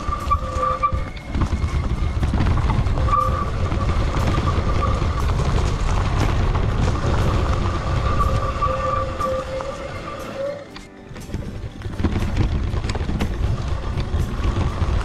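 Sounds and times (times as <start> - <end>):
bike clicking and rattling: 0.0 - 15.0
bike tyres rumbling on dirt: 0.0 - 15.0.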